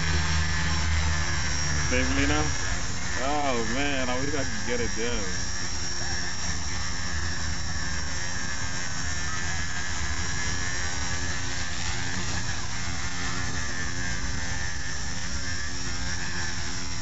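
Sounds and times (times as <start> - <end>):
rc helicopter motor whine: 0.0 - 17.0.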